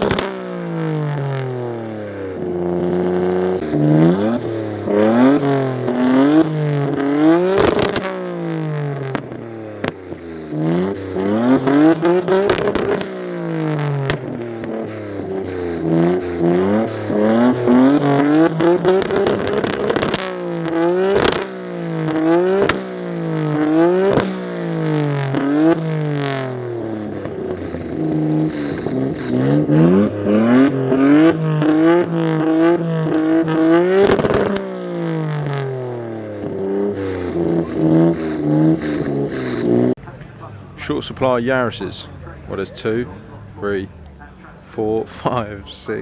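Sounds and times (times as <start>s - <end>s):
car engine revving: 0.0s - 46.0s
exhaust cracks: 0.0s - 46.0s.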